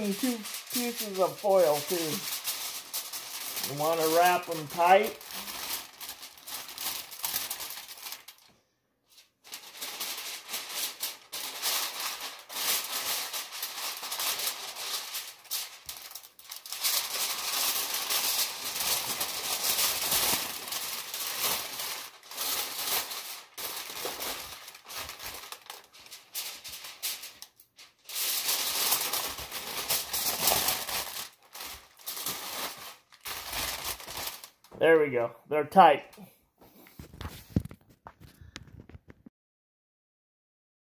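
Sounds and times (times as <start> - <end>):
aluminium foil crinkling: 0.0 - 8.5, 9.1 - 34.8, 36.9 - 39.1.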